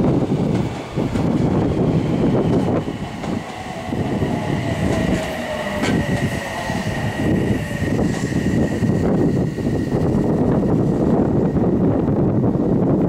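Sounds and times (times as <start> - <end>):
train wheels noise: 0.0 - 11.8
electric train high-pitched whine: 0.0 - 12.4.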